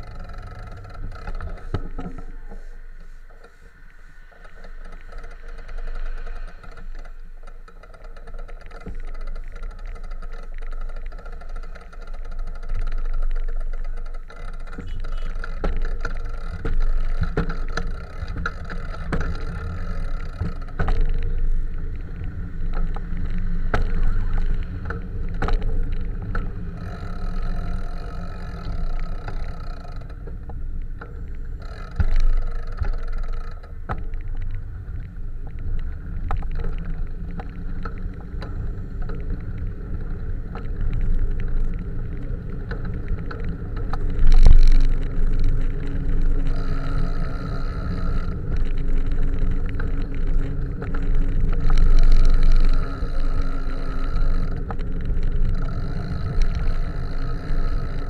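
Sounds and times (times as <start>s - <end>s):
vehicle engines running: 0.0s - 58.0s
wind rumble on microphone: 0.0s - 58.0s
clicks and rattles: 4.4s - 58.0s.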